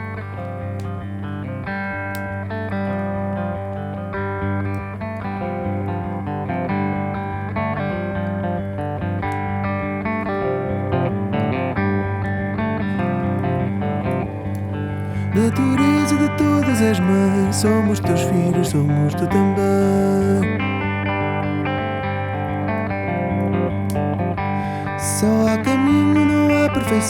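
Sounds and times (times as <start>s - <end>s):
plucked guitar notes: 0.0s - 27.0s.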